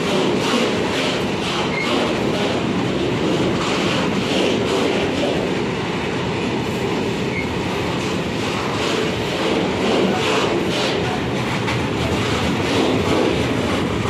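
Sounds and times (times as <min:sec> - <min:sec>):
freight train wheels rumbling on rails: 0:00.0 - 0:14.0.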